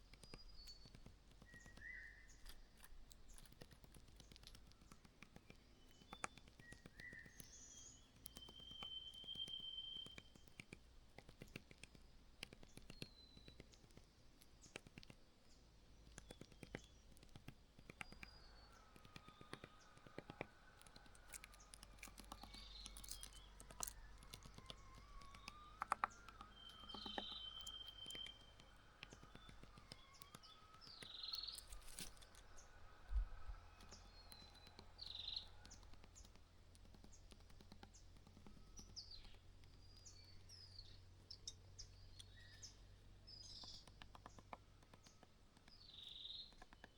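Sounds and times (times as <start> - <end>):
faint clicks and taps: 0.0 - 46.9
low background hum: 0.0 - 46.9
small birds chirping: 0.0 - 46.9.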